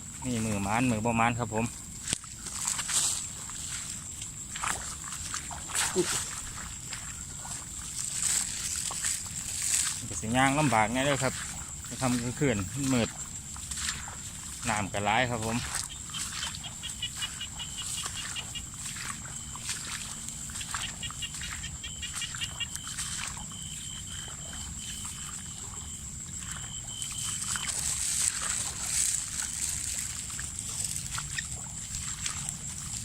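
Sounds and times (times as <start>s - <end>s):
insects whining: 0.0s - 33.0s
water sloshing and splashing: 0.0s - 33.0s.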